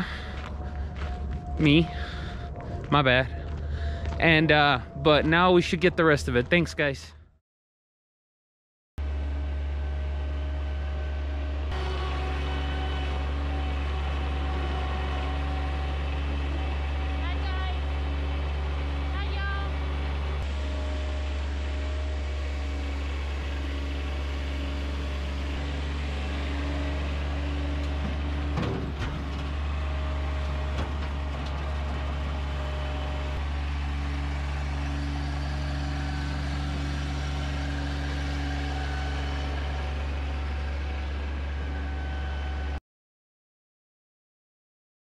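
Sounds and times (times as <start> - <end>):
diesel engine running: 0.0 - 7.3, 9.0 - 42.8.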